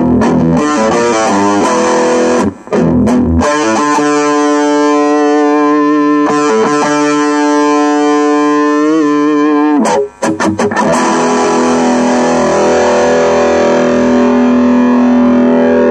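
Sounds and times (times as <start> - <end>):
overdriven electric guitar chords: 0.0 - 15.9.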